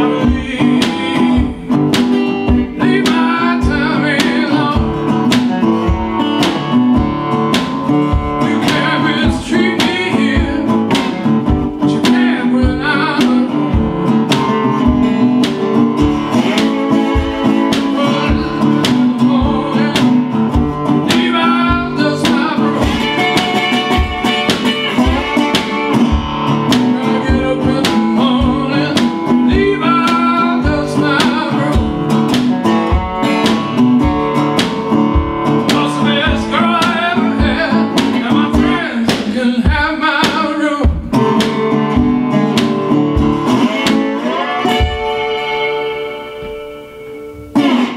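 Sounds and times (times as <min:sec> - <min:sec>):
resonator guitar blues: 0:00.0 - 0:47.9.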